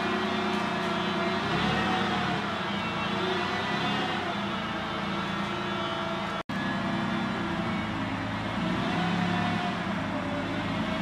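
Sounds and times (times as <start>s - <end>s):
large vehicle engine idling: 0.0s - 11.0s.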